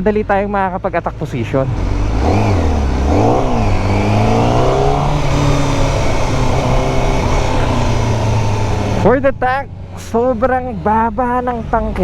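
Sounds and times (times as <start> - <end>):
motorcycle engine revving: 1.2 - 11.7.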